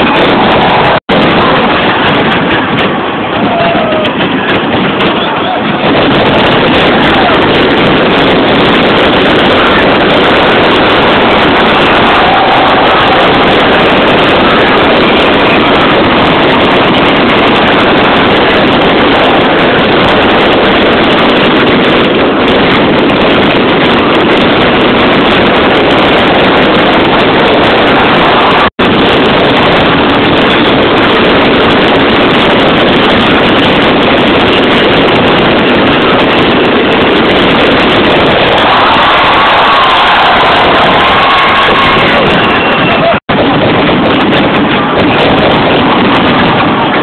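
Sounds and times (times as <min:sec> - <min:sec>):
fireworks barrage: 0:00.0 - 0:47.0.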